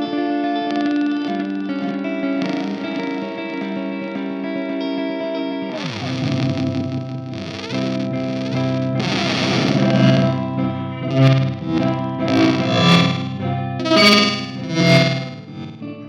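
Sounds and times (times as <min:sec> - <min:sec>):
distorted electric guitar glitching: 0:00.0 - 0:16.0.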